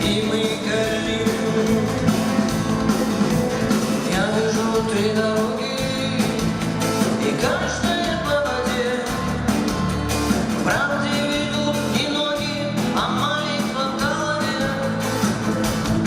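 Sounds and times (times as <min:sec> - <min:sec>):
person singing: 0:00.0 - 0:02.6, 0:03.8 - 0:16.0
live rock band playing: 0:00.0 - 0:16.0.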